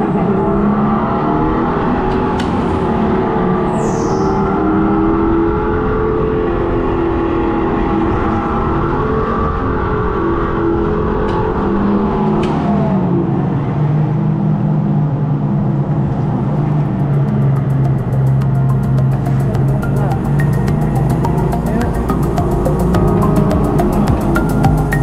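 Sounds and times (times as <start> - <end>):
artificial engine sound from speaker: 0.0 - 25.0.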